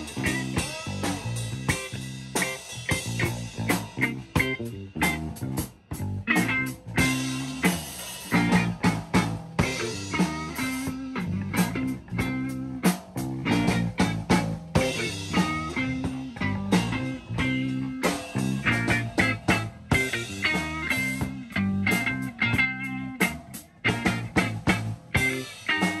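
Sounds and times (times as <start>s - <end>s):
drum beat: 0.0s - 26.0s
electric guitar: 0.0s - 26.0s.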